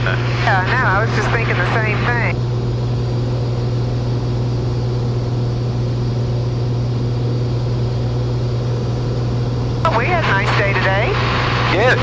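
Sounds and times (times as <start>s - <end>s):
airplane engine drone: 0.0s - 12.0s.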